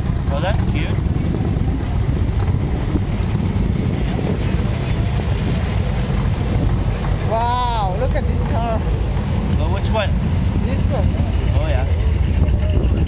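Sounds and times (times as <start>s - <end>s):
wind noise on microphone: 0.0s - 7.6s, 8.2s - 13.0s
cars driving past: 0.0s - 12.7s.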